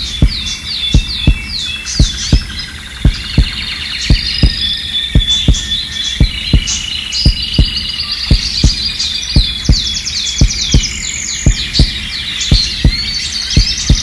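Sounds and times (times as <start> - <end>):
birds chirping and trilling: 0.0 - 14.0
heartbeat double thump: 0.0 - 14.0.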